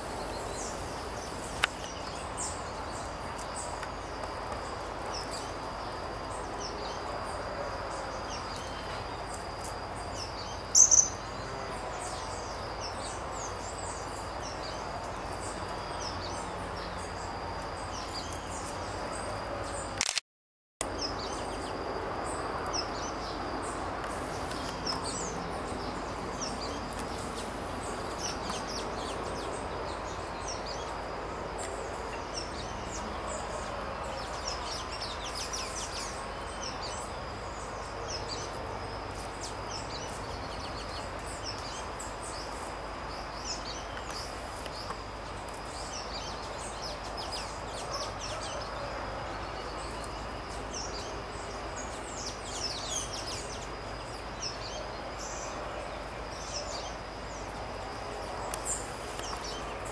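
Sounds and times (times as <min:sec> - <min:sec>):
small birds chirping: 0:00.0 - 0:20.2, 0:20.8 - 0:59.9
steady background noise: 0:00.0 - 0:20.2, 0:20.8 - 0:59.9.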